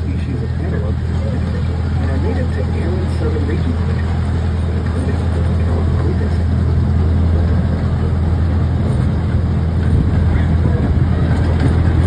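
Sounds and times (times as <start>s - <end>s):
train engine humming: 0.0s - 12.0s.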